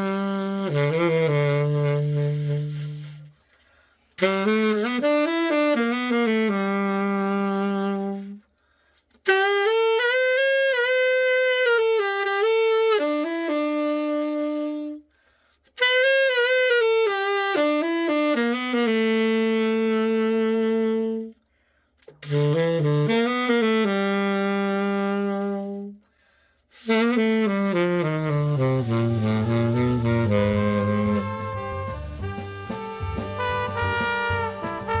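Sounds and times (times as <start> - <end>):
saxophone playing held notes: 0.0 - 3.4, 4.2 - 8.5, 9.2 - 15.1, 15.8 - 21.4, 22.0 - 26.0, 26.7 - 35.0.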